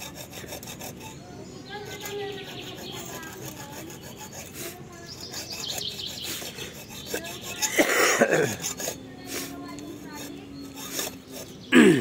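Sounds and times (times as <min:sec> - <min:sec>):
file rasping on metal: 0:00.0 - 0:11.7
birds chirping: 0:00.1 - 0:12.0.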